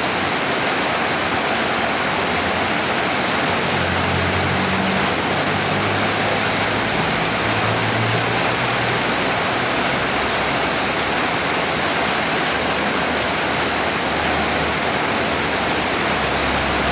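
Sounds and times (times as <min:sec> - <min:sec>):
heavy rain pouring: 0:00.0 - 0:16.9.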